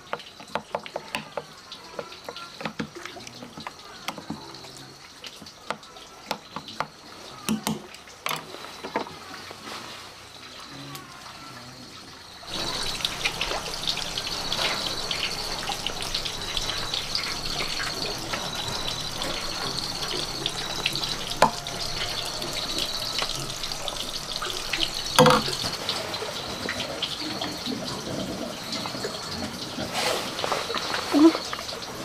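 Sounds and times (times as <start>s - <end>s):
rushing like running water: 0.0s - 32.0s.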